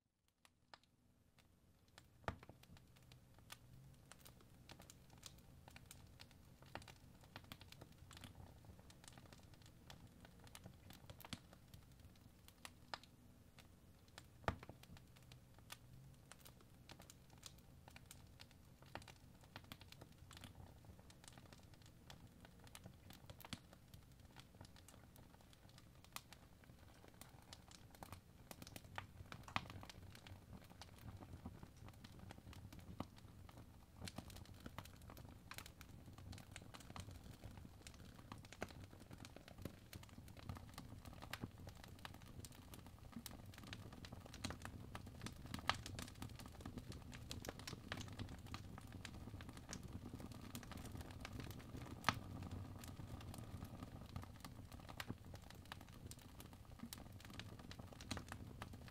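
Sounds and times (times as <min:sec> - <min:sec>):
fire crackling and popping: 0:00.7 - 0:58.9.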